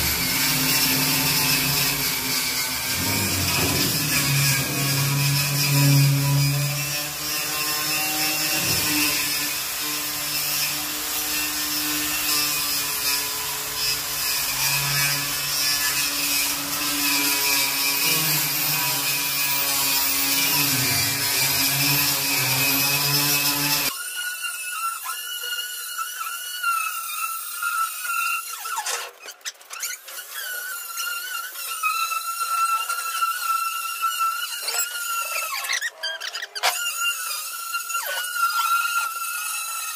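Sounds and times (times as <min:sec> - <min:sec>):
angle grinder wire brush scouring: 0:00.0 - 0:39.9.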